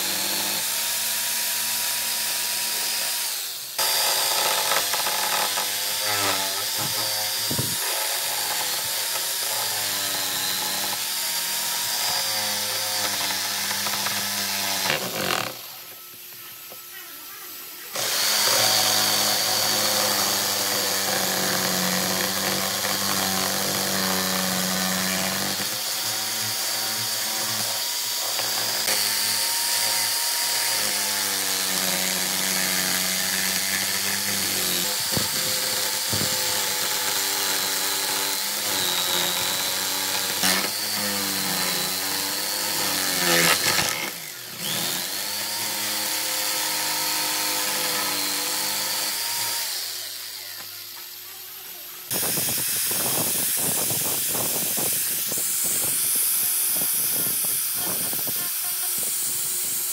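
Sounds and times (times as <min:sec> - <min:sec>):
electric power tool on wood: 0:00.0 - 0:59.9.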